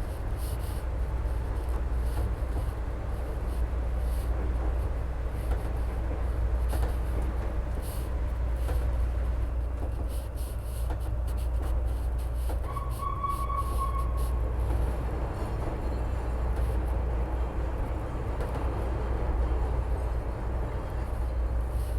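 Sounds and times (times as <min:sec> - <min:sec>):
train rumbling on track: 0:00.0 - 0:21.9.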